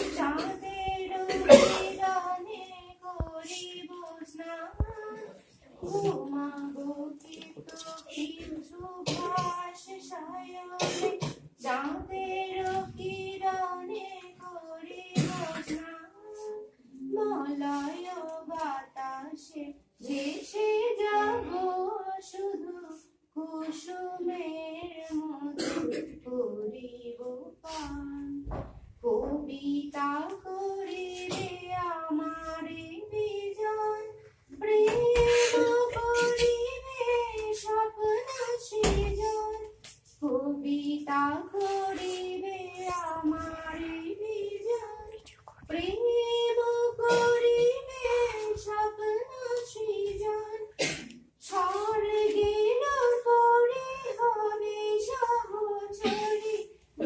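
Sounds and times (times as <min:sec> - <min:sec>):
woman singing unaccompanied: 0:00.0 - 0:50.8, 0:51.4 - 0:57.0.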